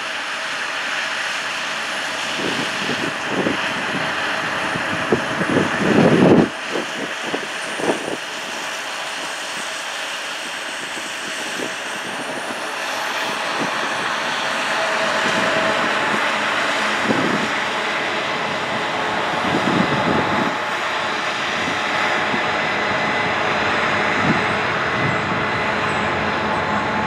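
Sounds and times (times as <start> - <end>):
harvesting machine engine drone: 0.0 - 27.0.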